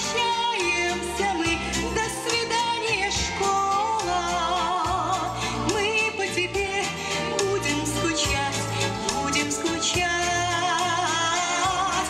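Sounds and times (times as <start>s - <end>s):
instrumental accompaniment with bass: 0.0s - 12.0s
woman singing into a microphone: 0.0s - 12.0s.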